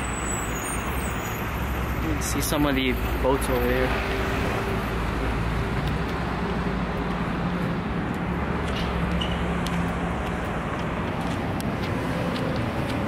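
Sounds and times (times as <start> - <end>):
road traffic on a bridge: 0.0 - 13.0.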